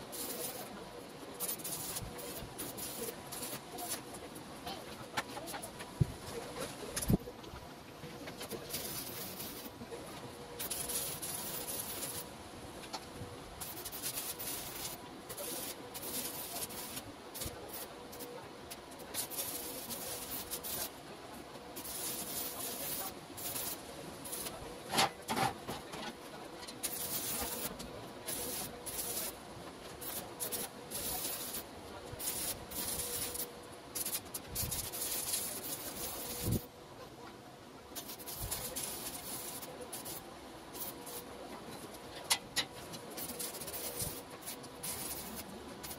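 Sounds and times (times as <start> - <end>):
welding arc crackling and hissing: 0.0 - 25.5, 26.2 - 36.7, 37.9 - 45.9.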